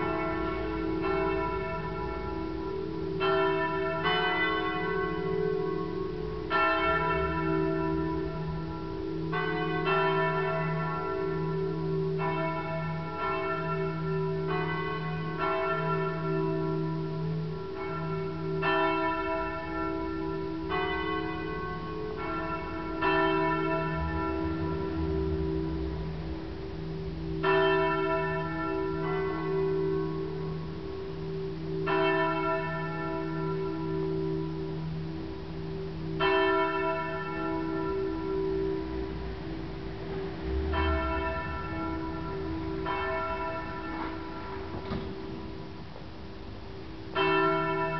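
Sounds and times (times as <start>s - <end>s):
higher church bells striking: 0.0s - 47.9s
pulsing hum of lower bells: 0.0s - 47.9s.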